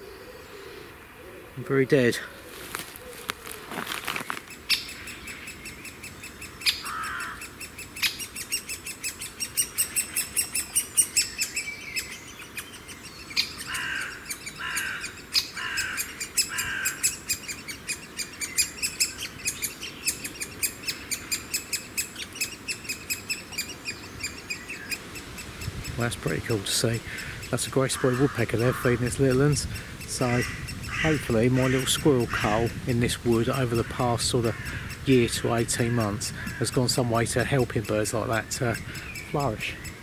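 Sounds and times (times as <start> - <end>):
nestlings begging chatter: 0.0 - 40.0.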